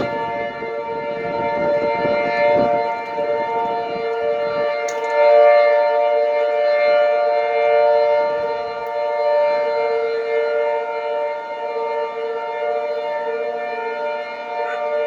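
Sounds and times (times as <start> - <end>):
storm warning sirens steady tone: 0.0 - 15.0.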